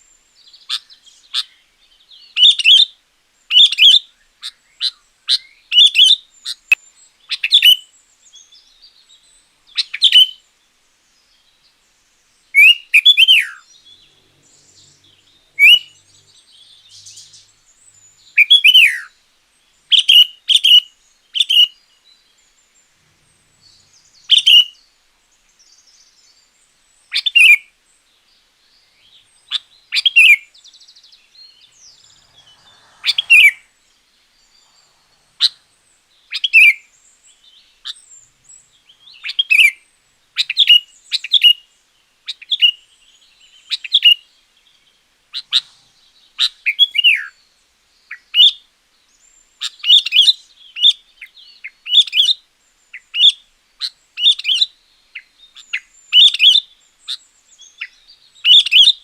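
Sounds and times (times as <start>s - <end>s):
bird singing short phrases: 3.5s - 59.0s.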